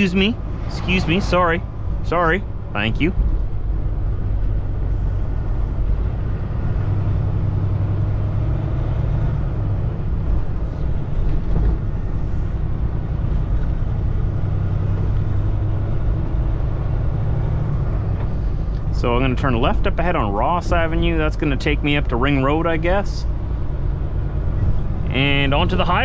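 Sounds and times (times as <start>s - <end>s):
diesel truck engine droning: 0.0s - 26.0s
tyre and road rumble: 0.0s - 26.0s.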